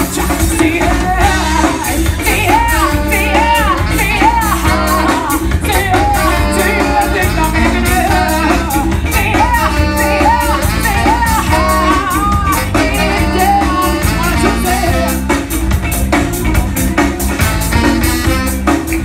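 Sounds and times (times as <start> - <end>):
woman singing lead: 0.0 - 15.6
bass: 0.0 - 19.0
drums: 0.0 - 19.0
electric guitar: 0.0 - 19.0.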